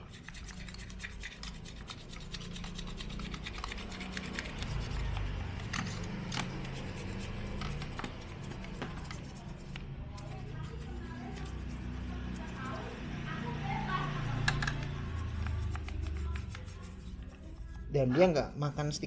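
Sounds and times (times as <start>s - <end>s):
toothbrush scrubbing plastic: 0.0s - 18.1s.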